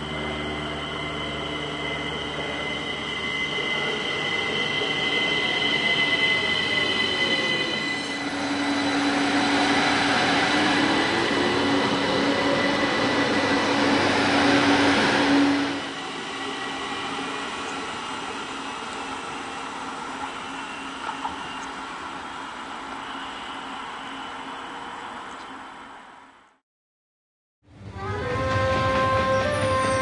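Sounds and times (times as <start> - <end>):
train passing at speed: 0.0 - 26.6, 27.7 - 30.0.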